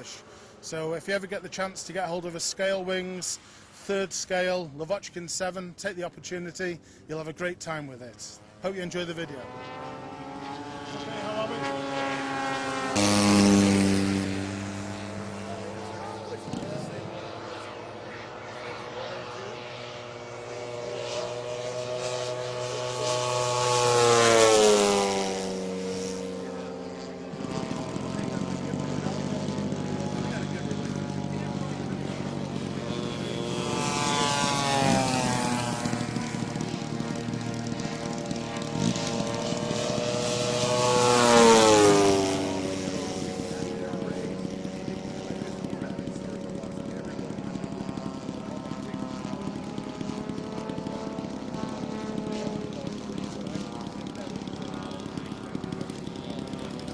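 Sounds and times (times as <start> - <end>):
model airplane engine flyby: 0.0 - 56.9.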